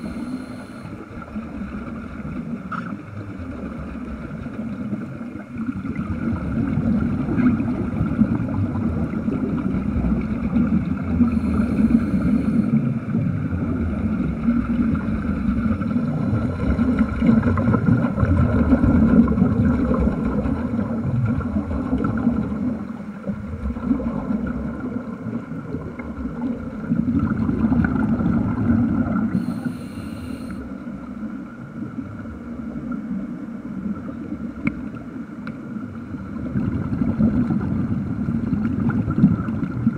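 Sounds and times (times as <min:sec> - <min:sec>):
underwater air bubbling: 0:00.0 - 0:39.9.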